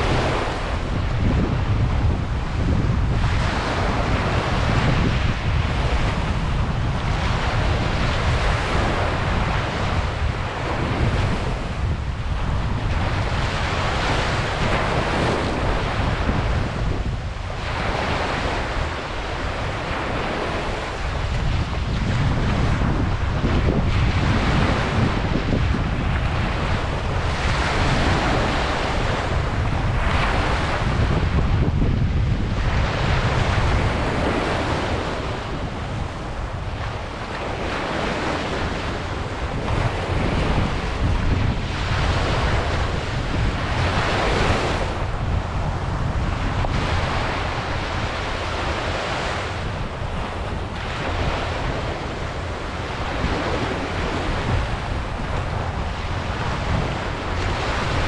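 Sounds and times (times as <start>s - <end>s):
ocean waves breaking on beach: 0.0s - 58.0s
wind buffeting microphone: 0.0s - 58.0s.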